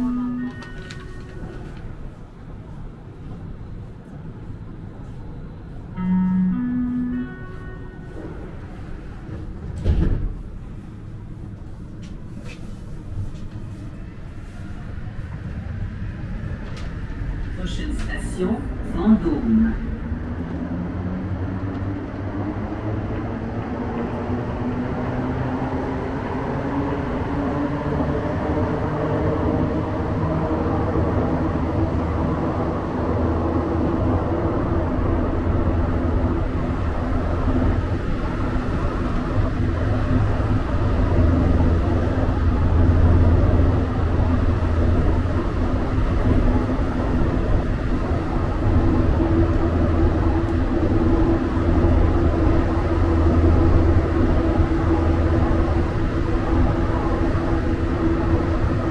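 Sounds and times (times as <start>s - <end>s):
train motor hum: 0.0s - 58.9s
train running gear rumble: 0.0s - 58.9s.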